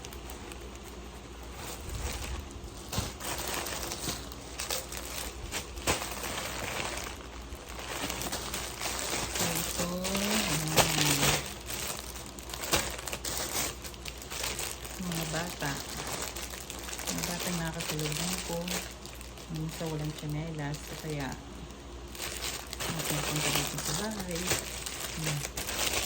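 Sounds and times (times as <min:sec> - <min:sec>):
plastic packaging crinkling: 0:00.0 - 0:26.0.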